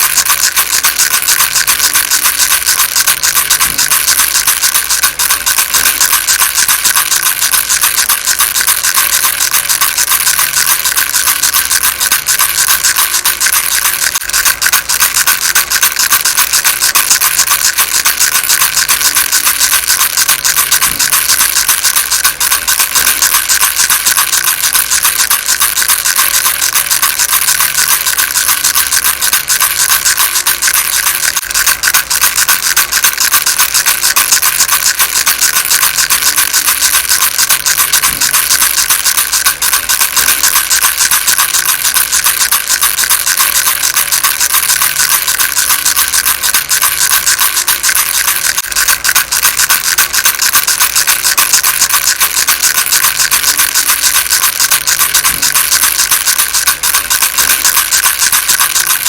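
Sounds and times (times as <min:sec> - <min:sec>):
baby rattle shaking: 0:00.0 - 0:59.0.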